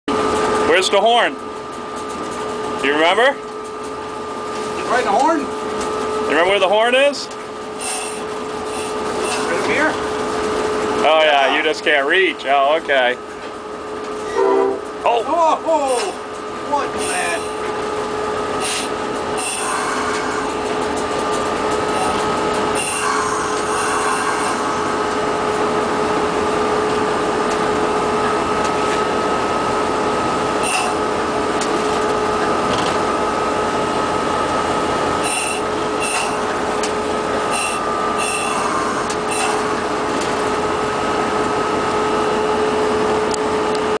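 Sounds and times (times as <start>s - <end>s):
diesel locomotive idling: 0.1s - 44.0s.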